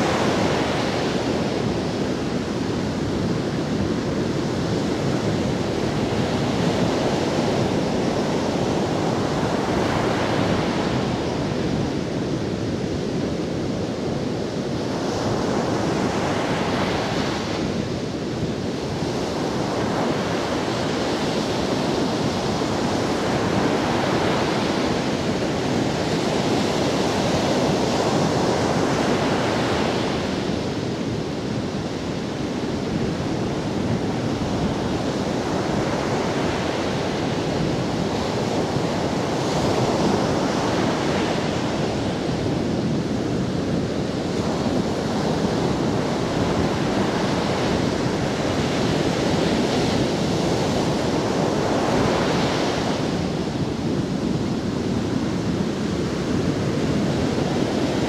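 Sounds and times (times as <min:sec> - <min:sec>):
ocean waves breaking on sand: 0:00.0 - 0:58.0.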